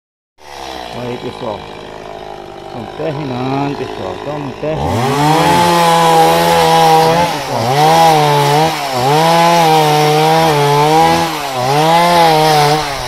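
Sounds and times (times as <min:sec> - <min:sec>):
chainsaw cutting wood: 0:00.4 - 0:13.0.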